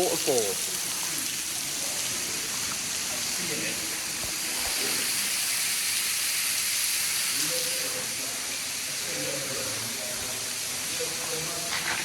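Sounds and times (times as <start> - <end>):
water pouring and splashing: 0.0 - 12.0.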